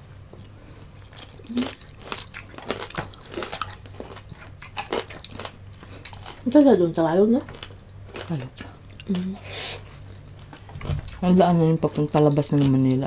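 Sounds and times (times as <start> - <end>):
chewing crispy fried food: 0.3 - 13.0.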